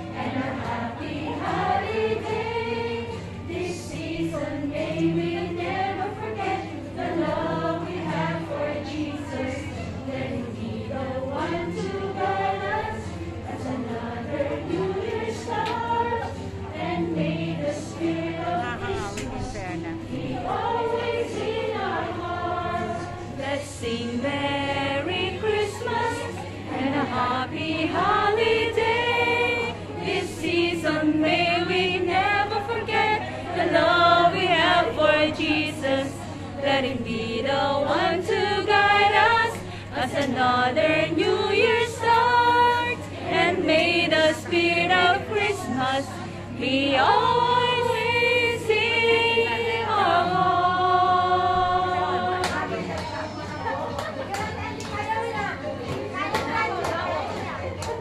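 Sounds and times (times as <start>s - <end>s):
group singing: 0.0s - 58.0s.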